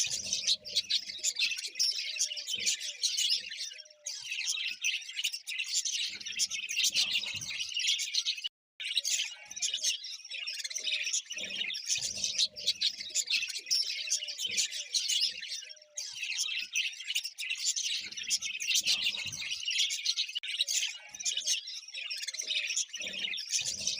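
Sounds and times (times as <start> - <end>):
budgerigars chirping and chattering: 0.0 - 23.9
low-pitched bird calls: 0.0 - 23.9.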